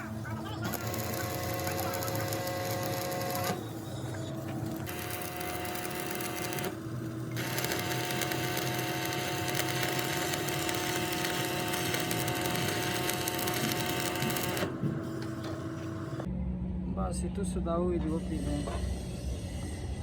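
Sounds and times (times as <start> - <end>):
machine humming and hissing: 0.0 - 16.3.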